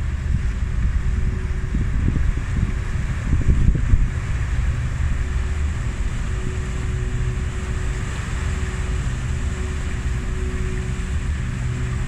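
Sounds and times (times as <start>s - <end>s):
faint hum: 0.0s - 12.0s
propellers churning water: 0.0s - 12.0s
ship engines low rumble: 0.0s - 12.0s.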